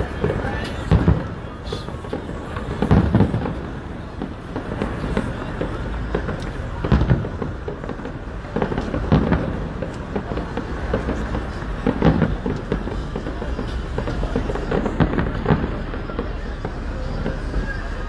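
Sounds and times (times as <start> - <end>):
constant rumble: 0.0 - 18.0
fireworks booming and crackling: 0.0 - 18.0.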